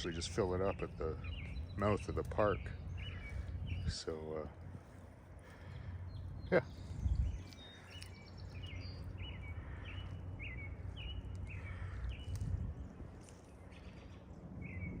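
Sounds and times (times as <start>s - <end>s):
bird chirping: 0.0s - 15.0s
low wind rumble: 0.0s - 15.0s.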